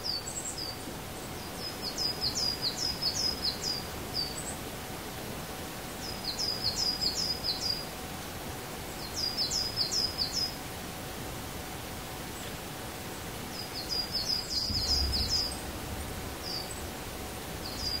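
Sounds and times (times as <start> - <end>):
songbird singing: 0.0 - 4.7, 5.3 - 10.7, 12.3 - 18.0
steady outdoor hiss: 0.0 - 18.0.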